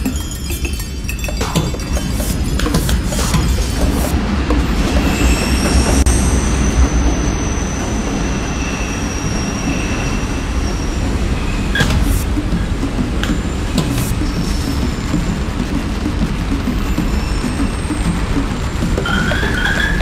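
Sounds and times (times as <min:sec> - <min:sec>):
train low rumble: 0:01.1 - 0:20.0
high wheel squeal: 0:01.7 - 0:20.0.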